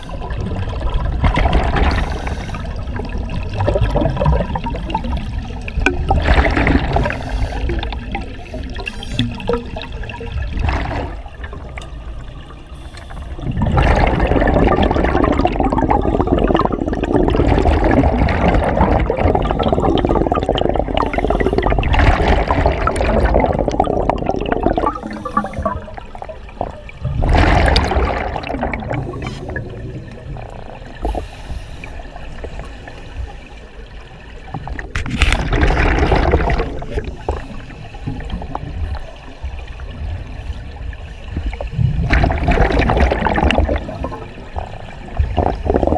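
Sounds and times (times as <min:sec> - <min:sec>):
underwater bubbles gurgling: 0:00.0 - 0:45.9.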